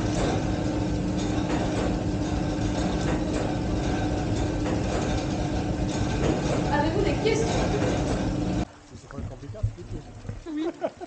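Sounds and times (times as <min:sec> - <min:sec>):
light mechanical knocks: 0:00.0 - 0:10.5
line-shaft machinery humming: 0:00.0 - 0:11.0.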